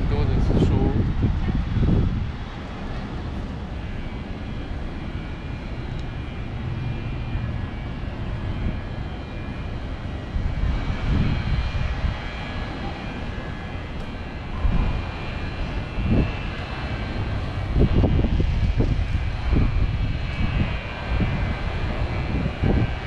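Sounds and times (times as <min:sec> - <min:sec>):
faint high whine: 0:00.0 - 0:23.0
low engine rumble: 0:00.0 - 0:23.0.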